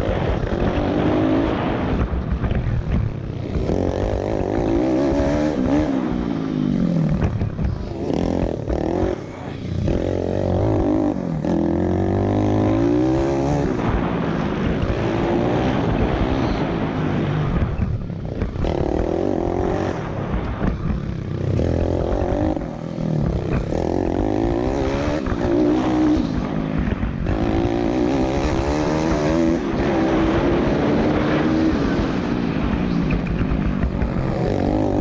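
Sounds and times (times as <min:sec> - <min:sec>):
motorcycle engine revving: 0:00.0 - 0:35.0
wind noise on microphone: 0:00.0 - 0:35.0.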